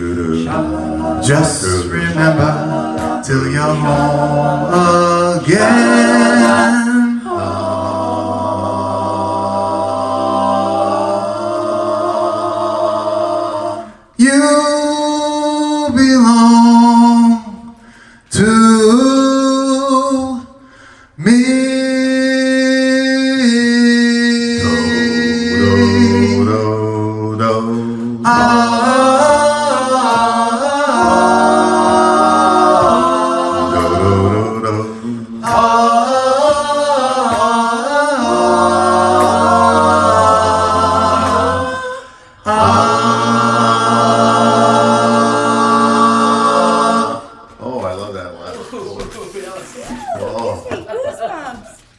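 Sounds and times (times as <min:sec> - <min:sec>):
male vocal group singing harmony: 0:00.0 - 0:50.9.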